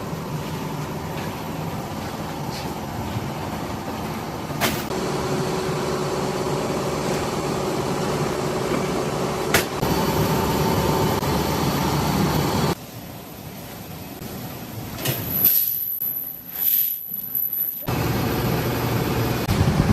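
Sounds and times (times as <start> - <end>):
factory machinery drone: 0.0 - 15.2, 17.8 - 19.9.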